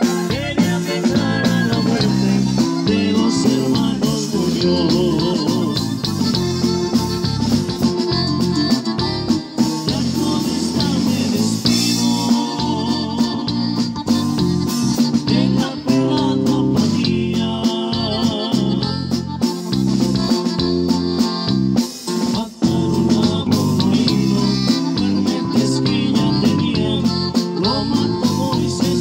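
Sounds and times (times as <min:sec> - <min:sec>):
accordion: 0:00.0 - 0:29.0
band playing: 0:00.0 - 0:29.0
electric bass: 0:00.0 - 0:29.0.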